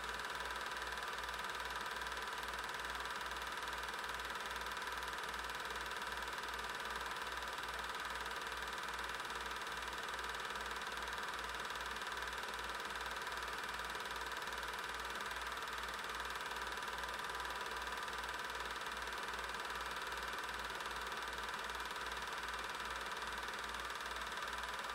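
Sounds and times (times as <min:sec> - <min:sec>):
film projector whirring: 0:00.0 - 0:24.9.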